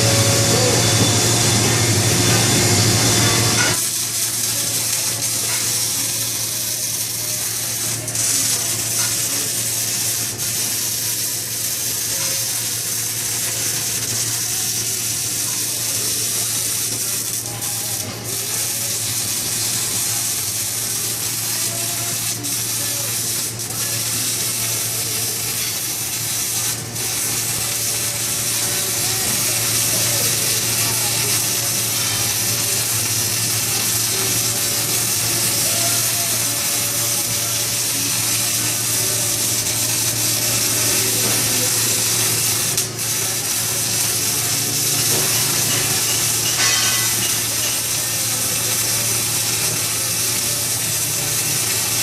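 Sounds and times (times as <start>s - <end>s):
welding arc crackling buzz: 0.0s - 52.0s.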